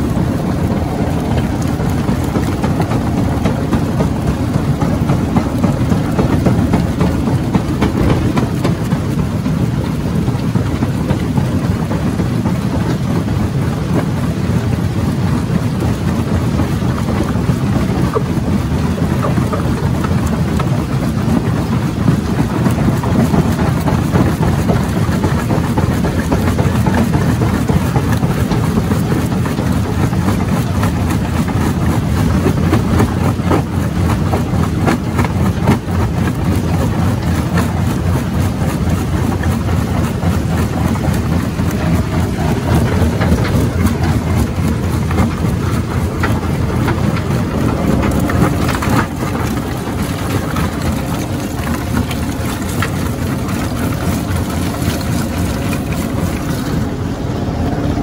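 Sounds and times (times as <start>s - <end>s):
rock crusher rumbling: 0.0s - 58.0s.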